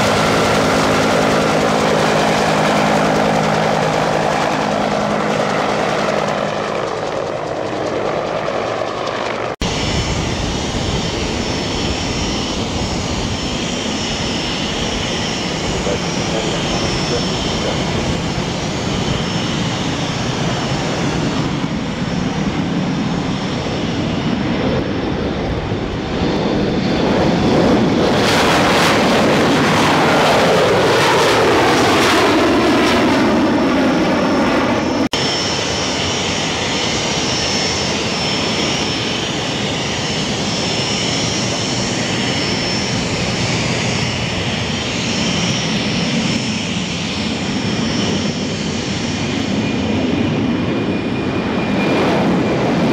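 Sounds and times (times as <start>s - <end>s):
aircraft passing: 0.0s - 52.9s
steady engine noise: 0.0s - 52.9s.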